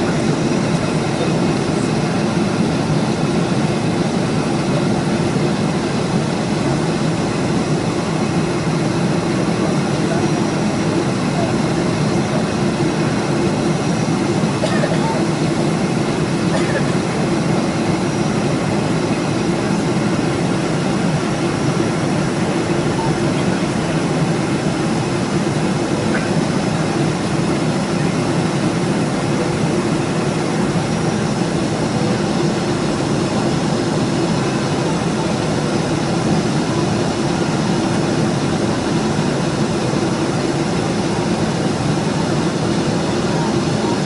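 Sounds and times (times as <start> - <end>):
airplane cabin engine rumble: 0.0 - 44.0.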